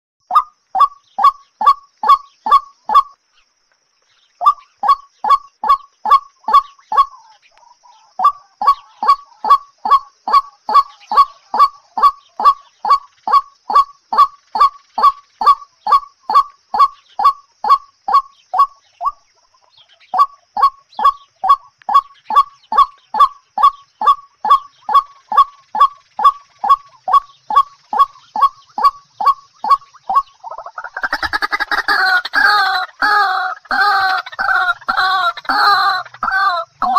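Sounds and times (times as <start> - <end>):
bird honking calls: 4.4 - 19.2, 19.9 - 36.9.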